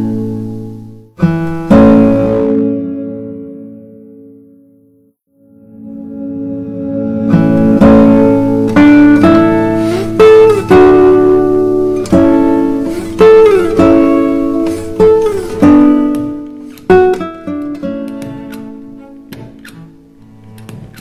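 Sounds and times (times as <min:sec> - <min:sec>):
slow plucked string melody: 0:00.0 - 0:21.0.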